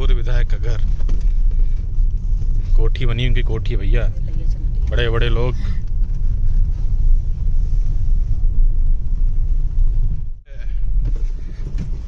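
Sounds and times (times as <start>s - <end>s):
car rumbling on dirt road: 0.0s - 12.0s.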